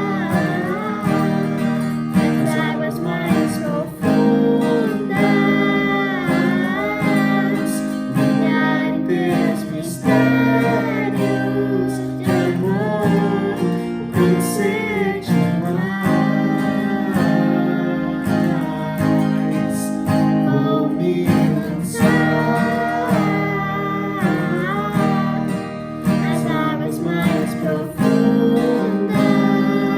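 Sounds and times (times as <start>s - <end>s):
person singing: 0.0s - 29.9s
strummed acoustic guitar: 0.0s - 29.9s.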